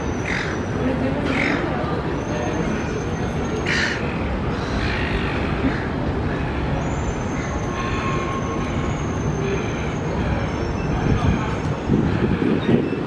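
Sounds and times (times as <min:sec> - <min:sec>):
urban background rumble: 0:00.0 - 0:13.0.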